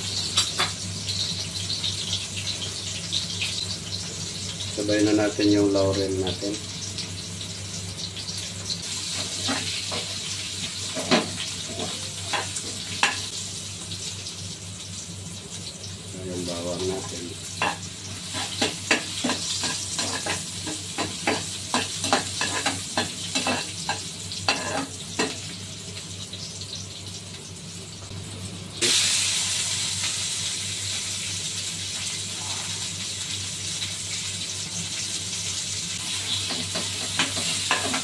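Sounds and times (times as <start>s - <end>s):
onion and garlic sizzling in oil: 0.0s - 38.0s.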